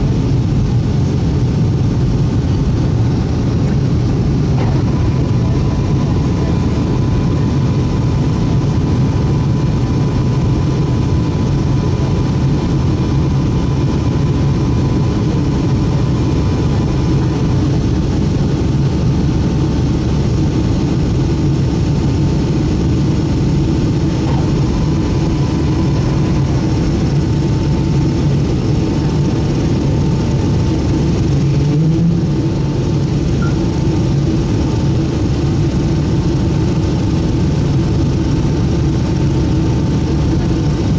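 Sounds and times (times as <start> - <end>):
faint engine whine: 0.0 - 40.9
jet engines rumbling: 0.0 - 40.9.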